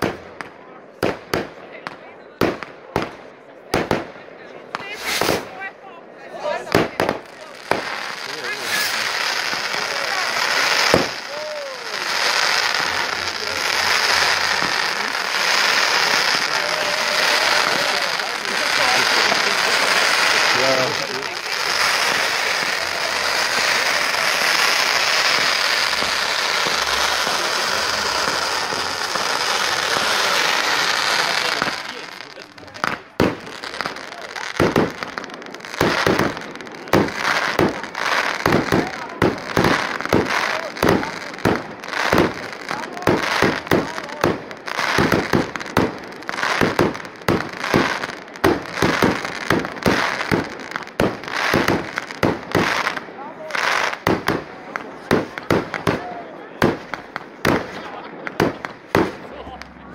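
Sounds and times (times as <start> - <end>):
firework fountains hissing and crackling: 0.0 - 59.9.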